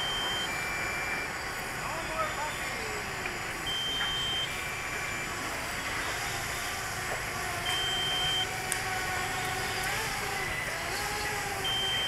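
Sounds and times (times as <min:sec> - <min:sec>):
electronic beeps: 0:00.0 - 0:06.8, 0:07.6 - 0:08.6, 0:10.1 - 0:12.0
steady background noise: 0:00.0 - 0:12.0.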